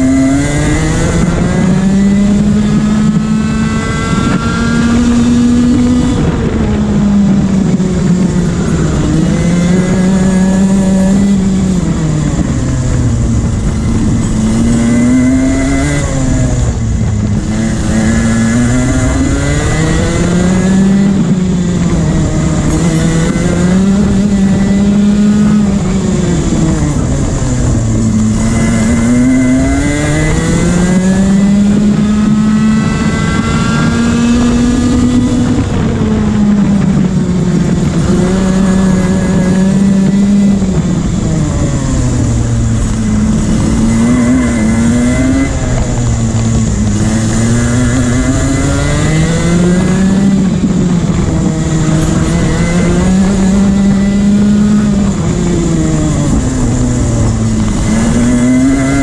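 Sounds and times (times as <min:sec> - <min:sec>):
kart engine racing: 0:00.0 - 0:59.0
steady rush of noise: 0:00.0 - 0:59.0.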